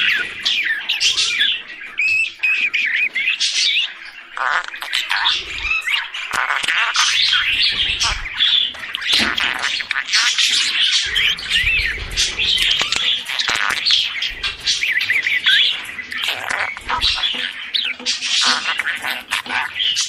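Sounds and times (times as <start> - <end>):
budgerigars chirping and warbling: 0.0 - 20.0.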